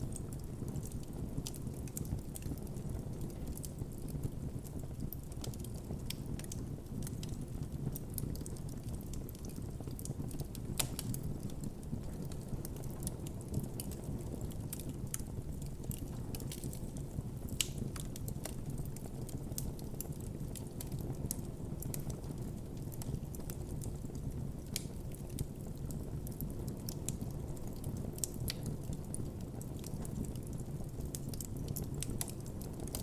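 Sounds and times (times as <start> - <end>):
fire crackles and pops: 0.0 - 33.0
campfire flames rushing: 3.8 - 33.0.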